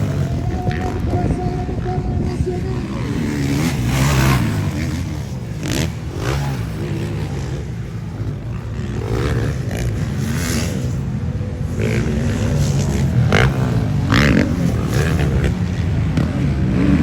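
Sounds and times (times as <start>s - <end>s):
motocross engines revving: 0.0s - 17.0s.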